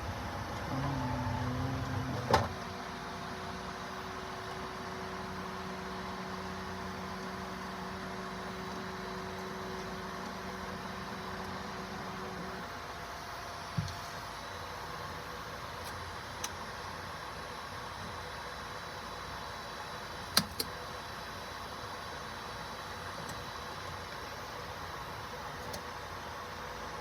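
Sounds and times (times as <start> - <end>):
two-tone machine hum: 0.0 - 27.0.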